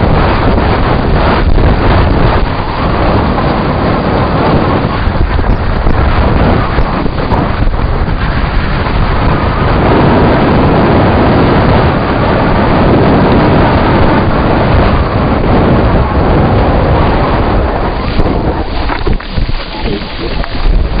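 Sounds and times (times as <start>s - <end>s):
bike rumbling and rattling: 0.0s - 21.0s
wind on microphone: 0.0s - 21.0s.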